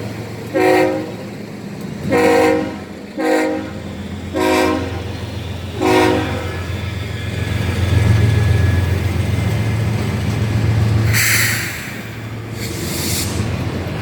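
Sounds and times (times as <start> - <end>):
diesel train rumble: 0.0 - 14.0.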